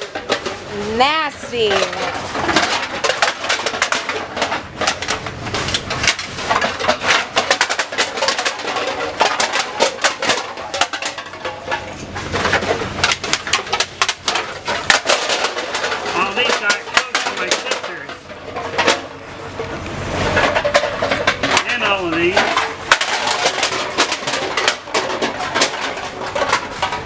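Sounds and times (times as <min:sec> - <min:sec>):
aluminium cans clattering: 0:00.0 - 0:27.0.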